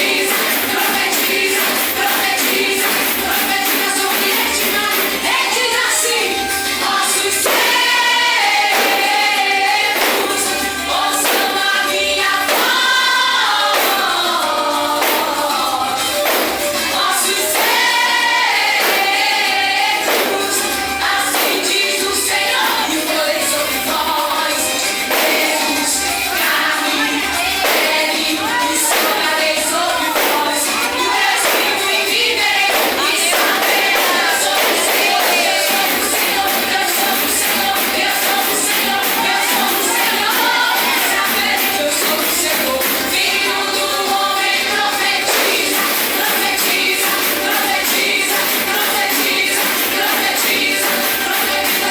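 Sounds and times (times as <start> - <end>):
gospel group singing: 0.0 - 51.9
instrumental accompaniment with beat: 0.0 - 51.9.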